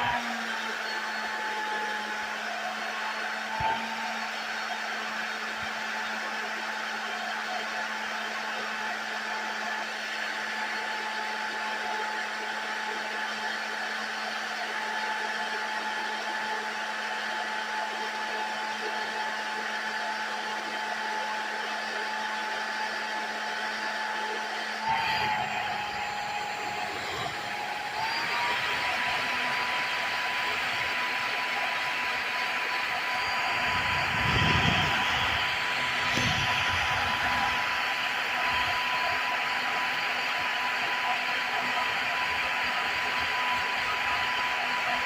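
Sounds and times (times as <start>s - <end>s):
appliance motor whining: 0.0s - 45.0s.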